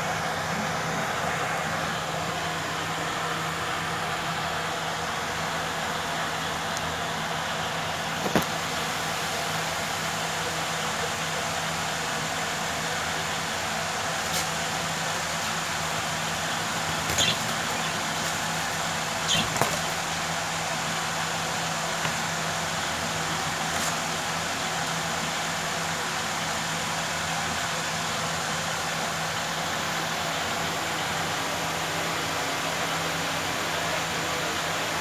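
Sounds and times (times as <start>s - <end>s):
low constant hum: 0.0s - 35.0s.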